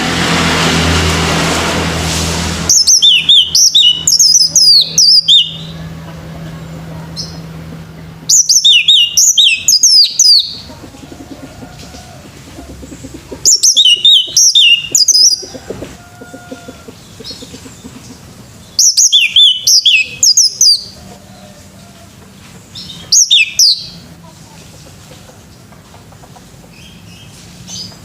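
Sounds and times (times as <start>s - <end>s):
thrush singing: 0.0s - 24.2s.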